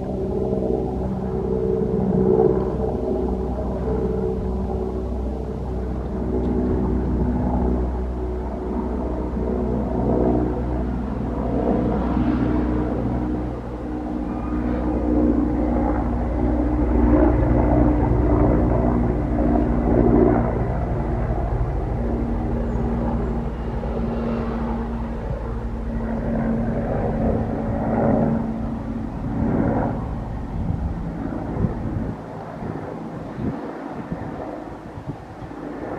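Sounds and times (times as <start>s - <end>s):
helicopter rotor and turbine drone: 0.0s - 35.9s.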